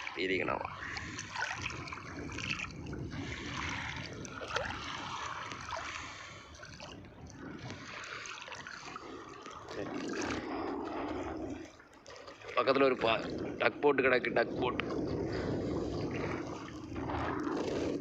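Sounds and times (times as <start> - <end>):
water sloshing and trickling: 0.0 - 18.0.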